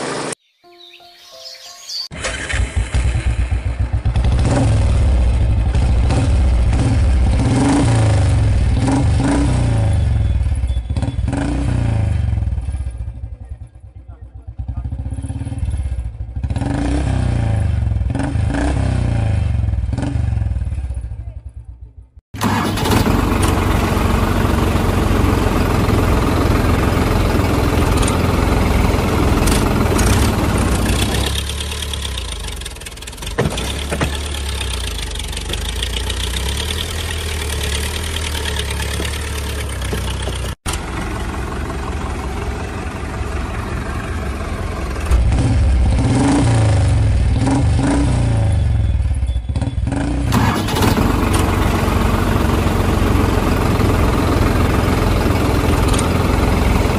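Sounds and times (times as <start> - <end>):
vehicle engine running and revving: 2.2 - 21.5, 22.4 - 56.9.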